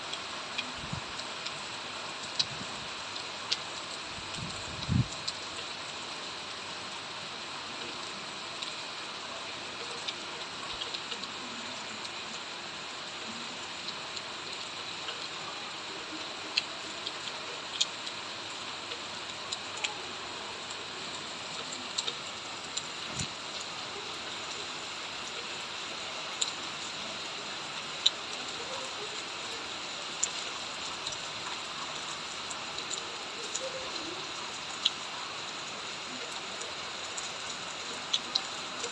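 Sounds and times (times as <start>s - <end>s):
rain hiss: 0.0s - 38.9s
raindrops ticking on surfaces: 0.0s - 38.9s.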